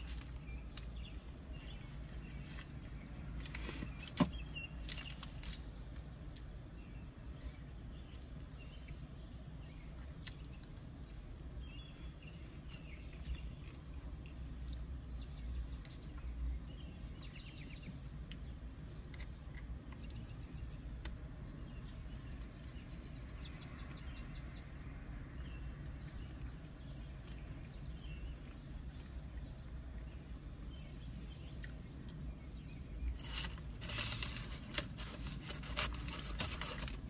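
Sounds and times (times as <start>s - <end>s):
low outdoor rumble: 0.0s - 37.0s.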